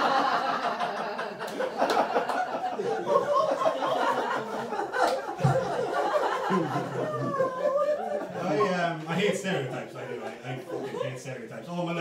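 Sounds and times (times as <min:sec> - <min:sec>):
audience laughing: 0:00.0 - 0:11.3.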